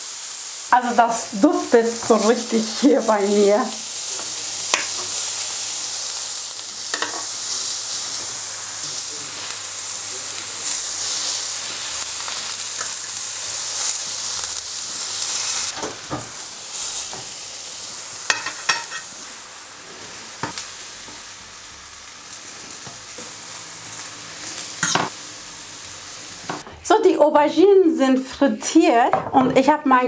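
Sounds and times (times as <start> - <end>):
vegetables sizzling in grill pan: 0.0 - 28.2.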